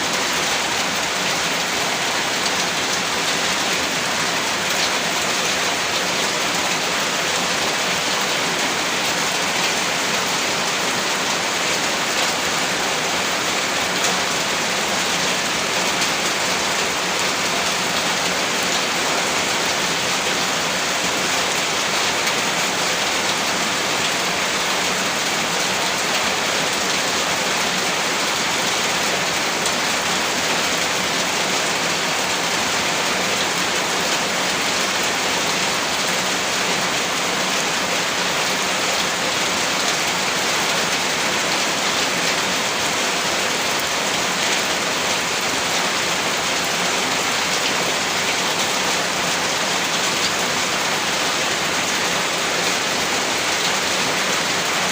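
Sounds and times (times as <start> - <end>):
heavy rain on a roof: 0.0 - 54.9.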